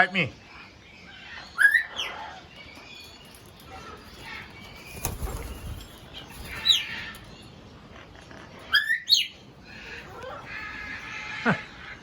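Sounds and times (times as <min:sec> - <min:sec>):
birds chattering: 0:00.0 - 0:12.0
sharp bird calls: 0:00.0 - 0:12.0.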